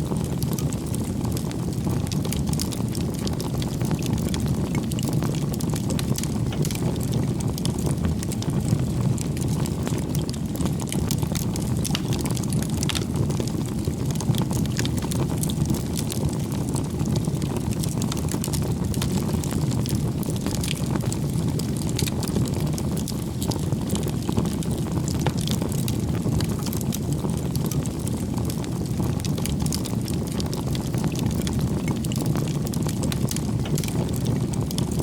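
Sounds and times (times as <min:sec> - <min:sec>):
bonfire flame rushing: 0:00.0 - 0:35.0
burning wood crackling and popping: 0:00.0 - 0:35.0.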